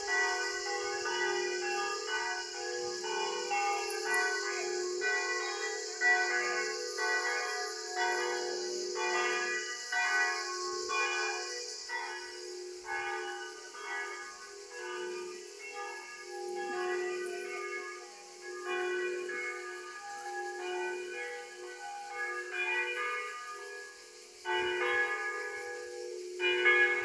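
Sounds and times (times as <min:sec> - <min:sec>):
church bells pealing: 0:00.0 - 0:27.0.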